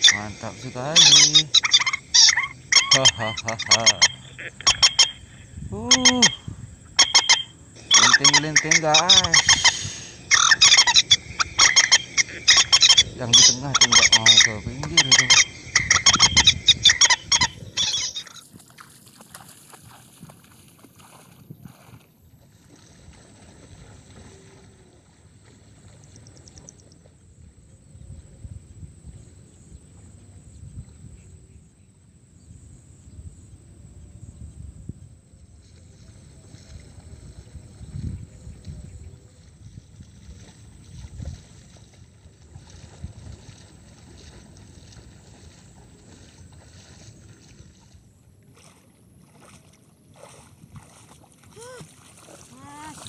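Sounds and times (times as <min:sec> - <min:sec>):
person wading through water: 0:00.0 - 0:27.4, 0:35.4 - 0:53.0
wind rumble: 0:00.0 - 0:31.6, 0:32.3 - 0:48.2.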